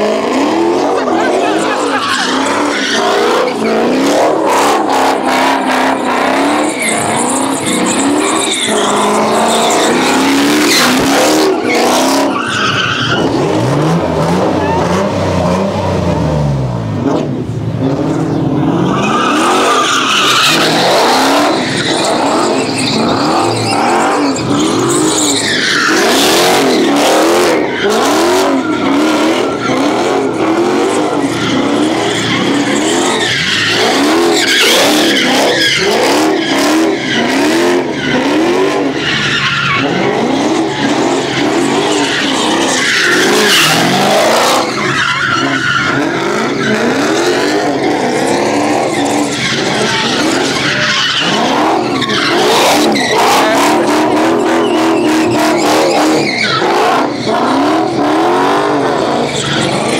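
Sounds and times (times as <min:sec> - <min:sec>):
car engine revving: 0:00.0 - 0:59.9
tyres squealing: 0:00.3 - 0:15.1, 0:18.5 - 0:59.9.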